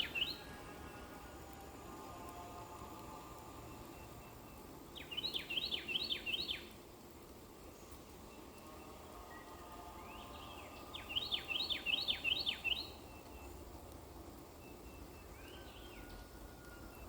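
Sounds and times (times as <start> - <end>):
gentle rain: 0.0 - 17.0
songbird singing: 0.0 - 17.0.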